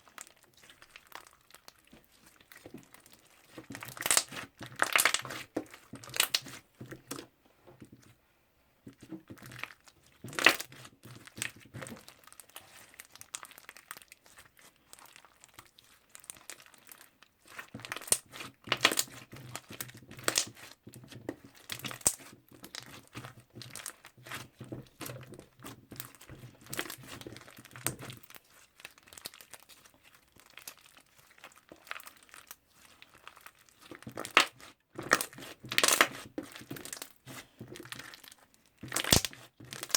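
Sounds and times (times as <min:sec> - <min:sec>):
slime squished by hand: 0:00.0 - 0:07.3, 0:08.9 - 0:39.9.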